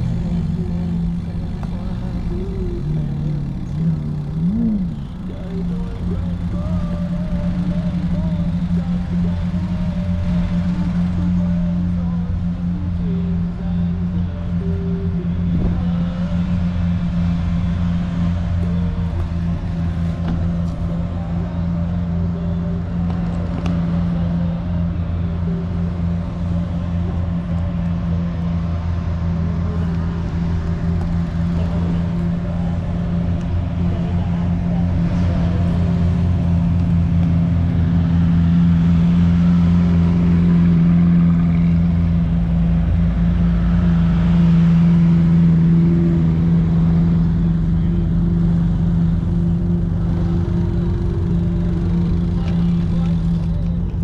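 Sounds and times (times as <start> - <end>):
car engines idling: 0.0 - 54.0.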